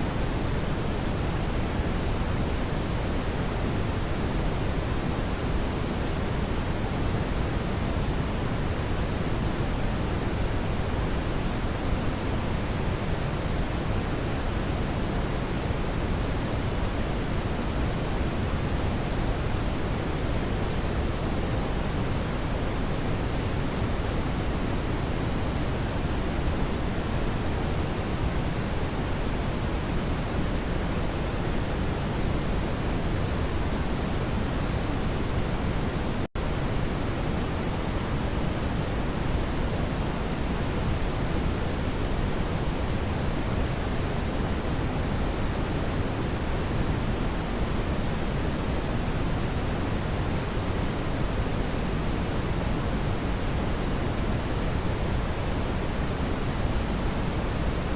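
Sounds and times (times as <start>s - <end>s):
brown noise hiss: 0.0s - 57.9s.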